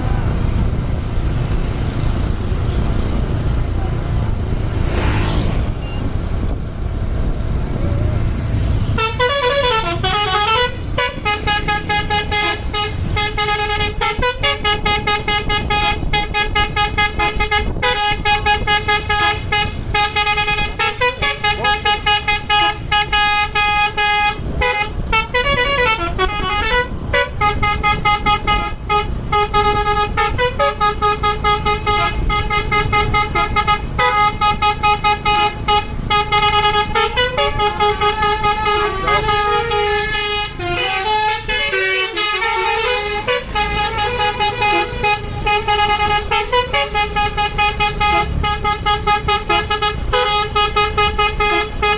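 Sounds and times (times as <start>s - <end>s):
low engine rumble: 0.0s - 51.9s
bus horn playing multi-tone tune: 8.8s - 51.9s.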